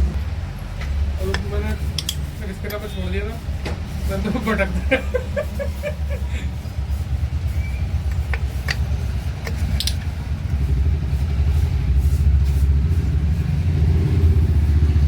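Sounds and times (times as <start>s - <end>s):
engine pulsing low rumble: 0.0s - 15.0s.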